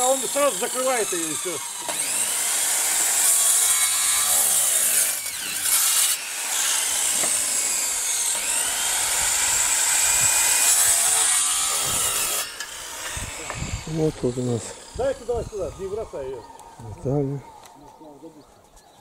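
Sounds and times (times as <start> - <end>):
electric woodworking tool cutting wood: 0.0 - 18.0.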